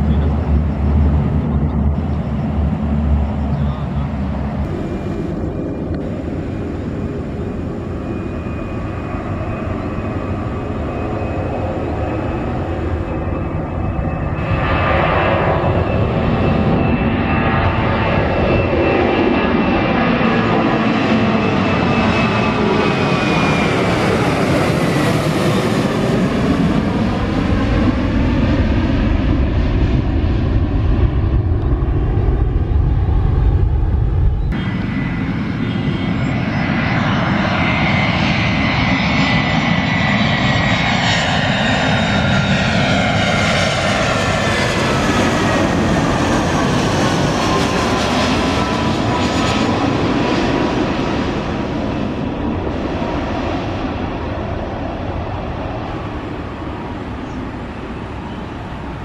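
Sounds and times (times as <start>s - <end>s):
jet airliner approaching: 0.0s - 59.0s.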